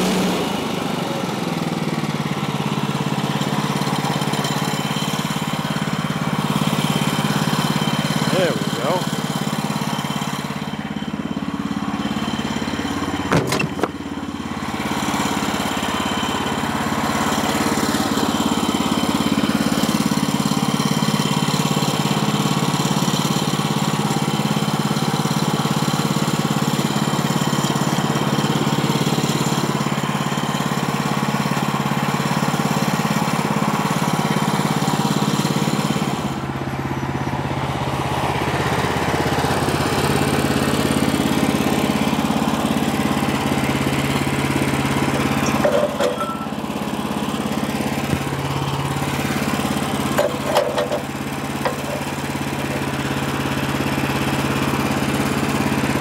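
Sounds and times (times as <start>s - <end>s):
bandsaw mill cutting log: 0.0s - 56.0s.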